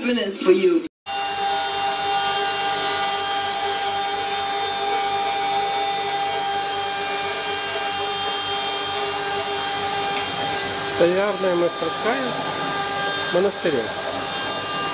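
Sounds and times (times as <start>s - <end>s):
woodworking machinery whining: 1.1s - 14.9s.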